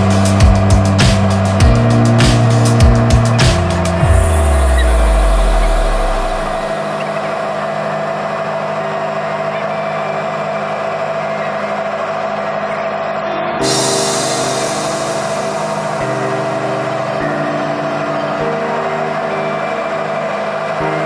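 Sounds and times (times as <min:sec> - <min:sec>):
helicopter running: 0:00.0 - 0:21.0.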